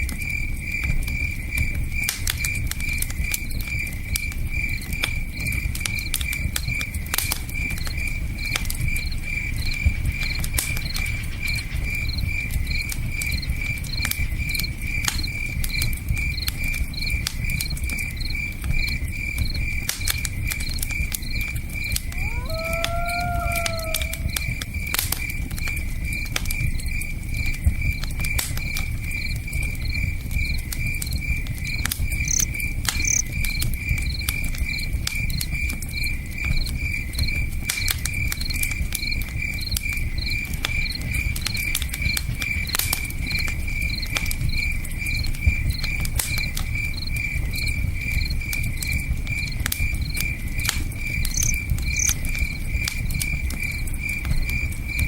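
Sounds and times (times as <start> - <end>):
campfire crackling: 0.0 - 55.0
crickets chirping: 0.2 - 55.0.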